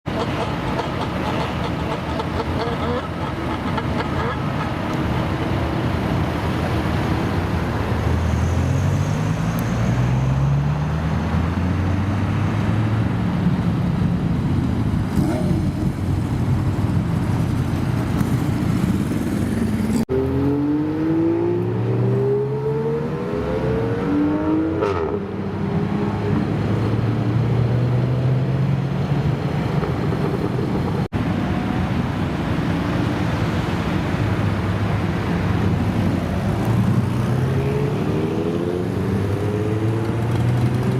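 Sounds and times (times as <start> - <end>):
car engines accelerating: 0.1 - 40.9.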